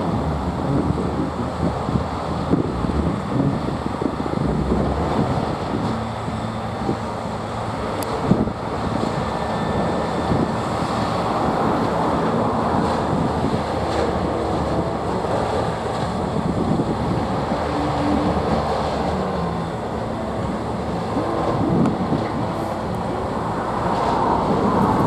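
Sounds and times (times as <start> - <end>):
diesel truck engines running: 0.0 - 25.0.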